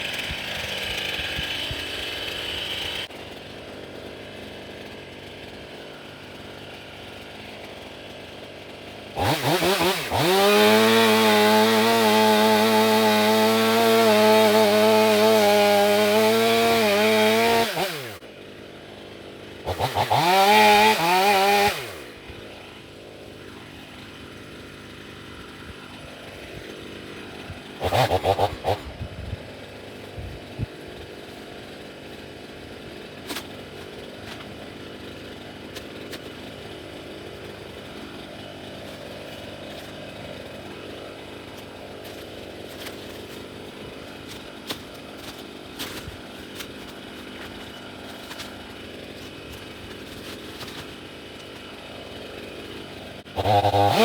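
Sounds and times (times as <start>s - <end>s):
chainsaw revving: 0.0s - 54.0s
chainsaw running quietly: 0.0s - 54.0s.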